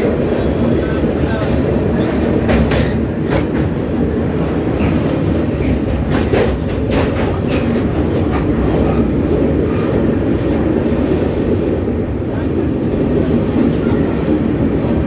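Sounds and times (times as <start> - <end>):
train rumbling over bridge: 0.0 - 15.0.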